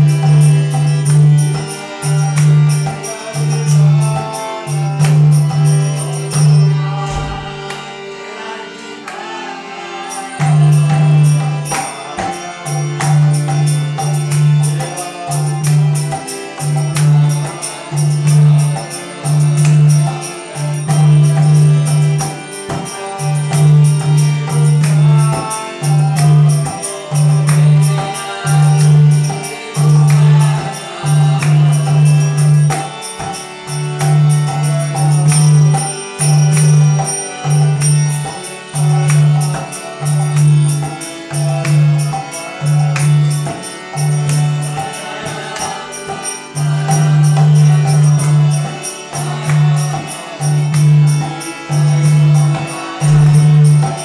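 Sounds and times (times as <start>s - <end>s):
group singing a hymn: 0.0s - 43.1s, 44.3s - 54.0s
jingling percussion: 0.0s - 54.0s.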